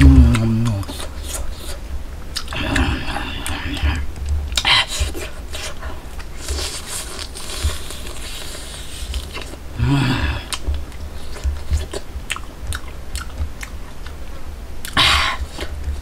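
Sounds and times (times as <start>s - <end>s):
man chewing meat: 0.0s - 16.0s.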